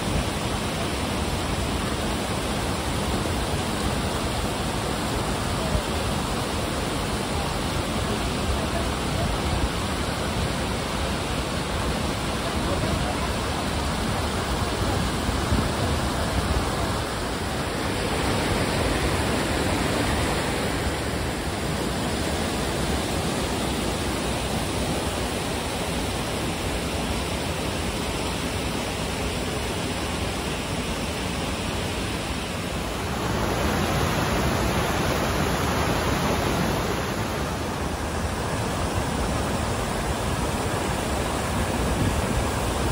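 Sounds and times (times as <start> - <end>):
water rushing over rocky falls: 0.0 - 42.9.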